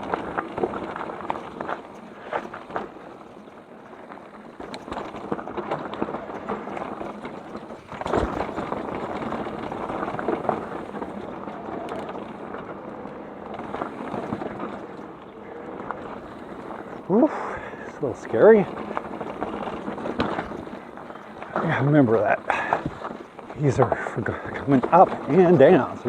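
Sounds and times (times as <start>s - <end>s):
bike rattling and clicking: 0.0s - 26.0s
bike tyres crunching over rocks: 0.0s - 26.0s.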